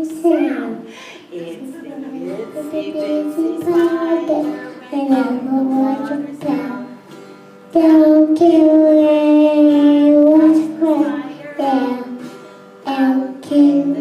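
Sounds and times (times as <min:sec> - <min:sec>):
child singing: 0:00.0 - 0:00.8, 0:02.2 - 0:07.0, 0:07.7 - 0:14.0.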